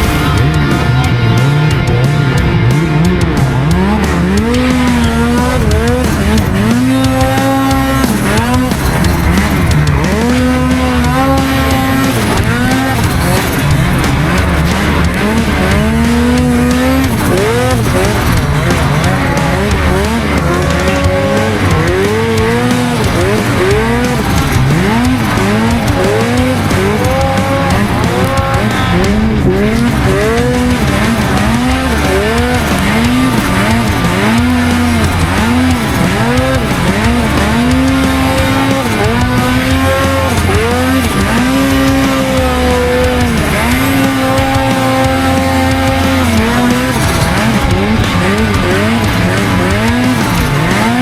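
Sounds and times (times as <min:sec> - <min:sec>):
snowmobile engine revving: 0:00.0 - 0:51.0.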